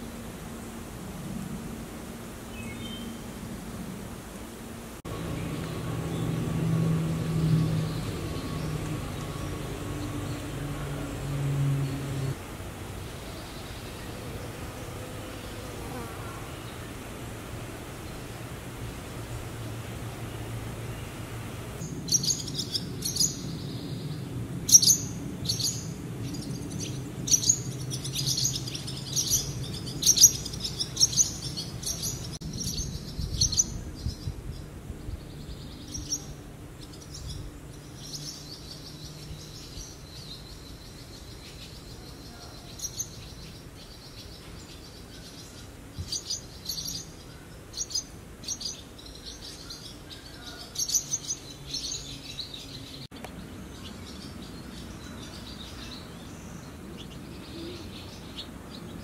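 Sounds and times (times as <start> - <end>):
small birds chirping: 5.1 - 12.4, 13.0 - 17.1, 17.9 - 59.0.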